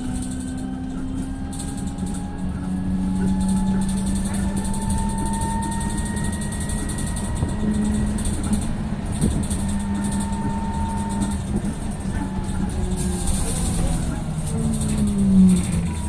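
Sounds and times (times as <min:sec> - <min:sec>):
electric bus motor whine: 0:00.0 - 0:16.0
low road rumble: 0:00.0 - 0:16.0.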